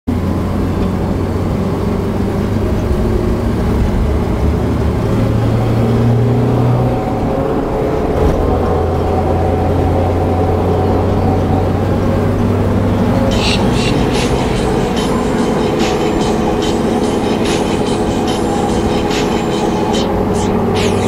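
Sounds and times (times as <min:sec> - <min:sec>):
car engine droning: 0:00.1 - 0:21.0.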